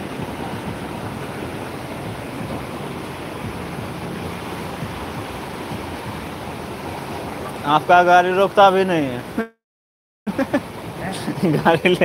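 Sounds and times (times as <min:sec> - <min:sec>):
floodwater pouring across road: 0:00.0 - 0:09.4, 0:10.3 - 0:12.0.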